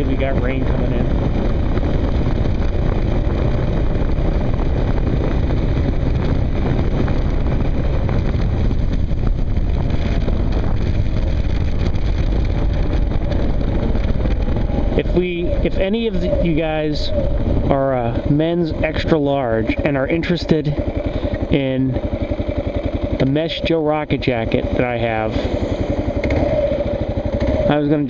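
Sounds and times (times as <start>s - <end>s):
wind noise on microphone: 0.0s - 27.7s
motorcycle engine running: 0.0s - 28.0s.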